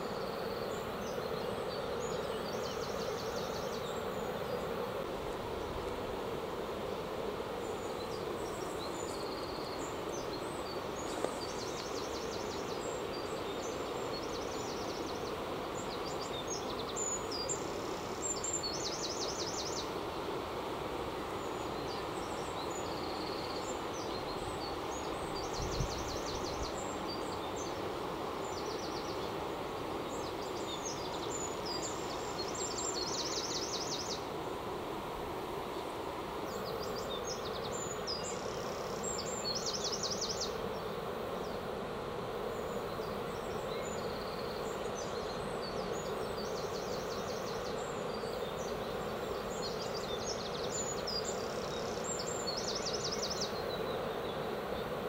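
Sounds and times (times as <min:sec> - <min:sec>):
songbird song with trill: 0:00.0 - 0:06.0, 0:06.9 - 0:20.2, 0:21.1 - 0:34.4, 0:36.4 - 0:41.7, 0:42.4 - 0:55.0.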